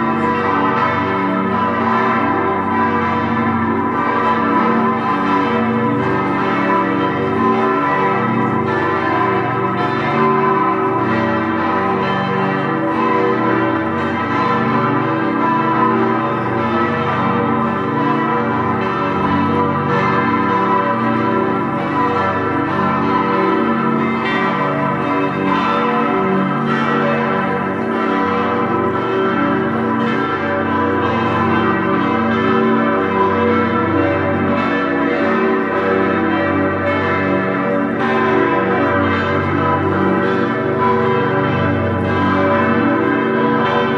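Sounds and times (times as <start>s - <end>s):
church bells ringing together: 0.0s - 43.9s.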